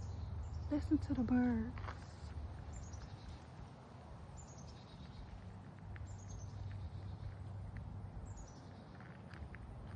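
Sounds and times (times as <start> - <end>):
songbird singing: 0.0 - 3.7, 4.3 - 9.6.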